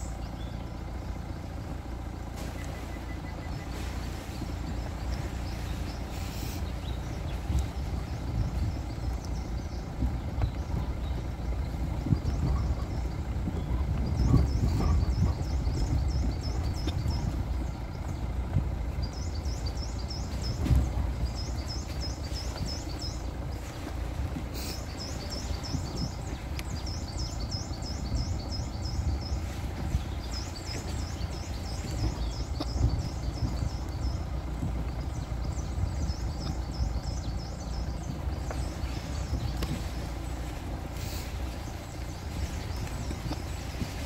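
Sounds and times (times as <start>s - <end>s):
steady low rumble: 0.0s - 44.0s
small bird chirping: 2.6s - 44.0s.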